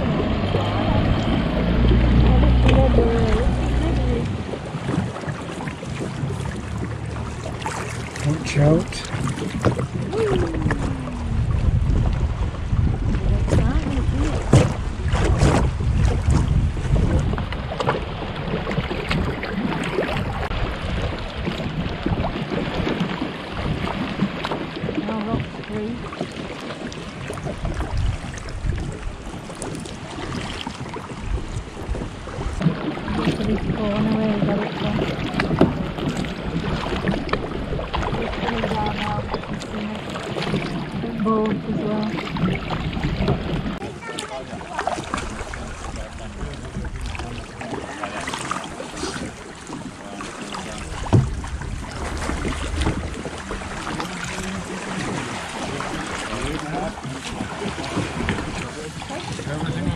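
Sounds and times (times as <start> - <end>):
paddle blades splashing: 0.0 - 59.9
water sloshing against hull: 0.0 - 59.9
wind buffeting microphone: 0.0 - 59.9.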